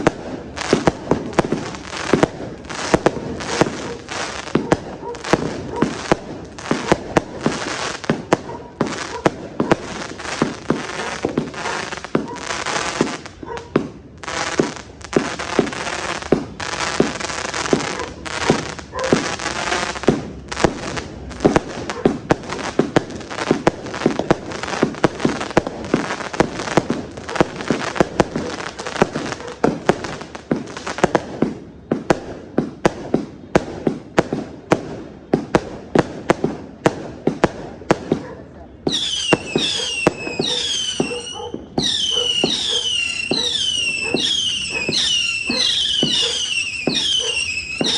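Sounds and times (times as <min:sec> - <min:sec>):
fireworks crackling: 0:00.0 - 0:47.9
fireworks shots and bursts: 0:00.0 - 0:47.9.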